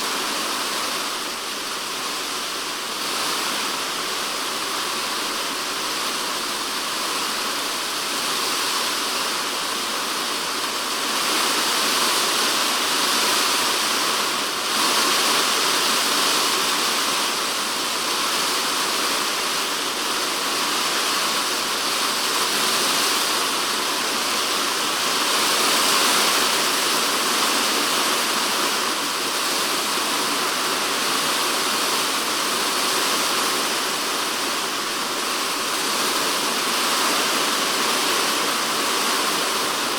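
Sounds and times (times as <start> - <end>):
rain on a plastic roof: 0.0 - 39.9.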